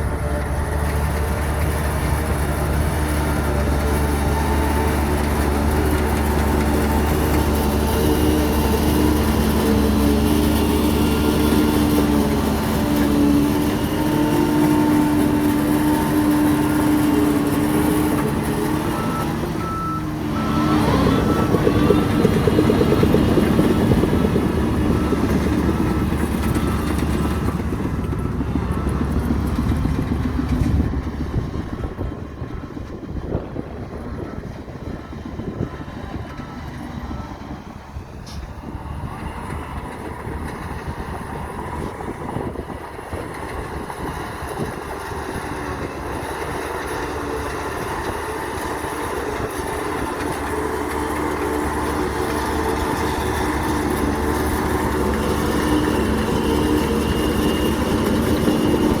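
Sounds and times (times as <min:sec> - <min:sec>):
model trucks and bulldozer running: 0:00.0 - 0:59.0.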